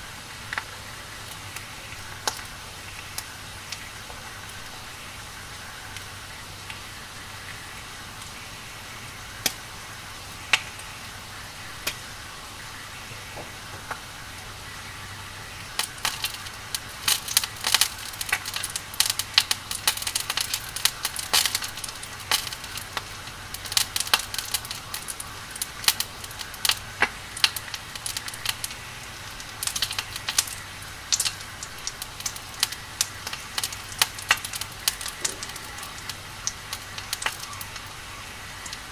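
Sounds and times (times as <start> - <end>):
firewood crackling and popping: 0.0 - 38.9
steady fire hiss: 0.0 - 38.9.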